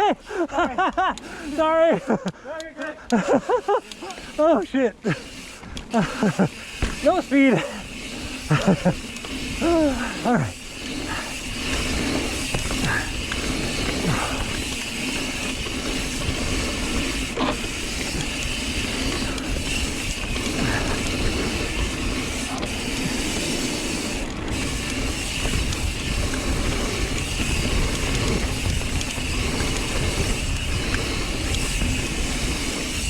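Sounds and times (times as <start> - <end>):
bike drivetrain rattling and clicking: 0.0 - 33.0
bike tyre rumble on dirt: 5.1 - 33.0.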